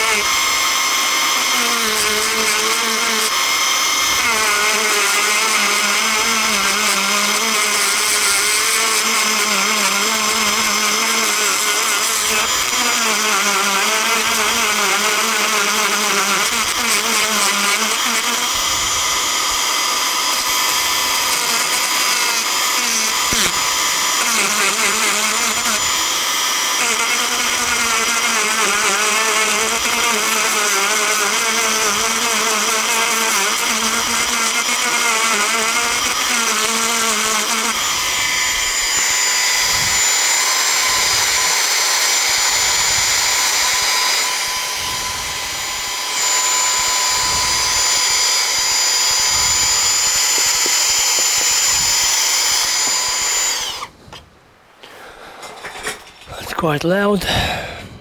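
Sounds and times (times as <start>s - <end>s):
rotary tool grinding metal: 0.0s - 54.0s.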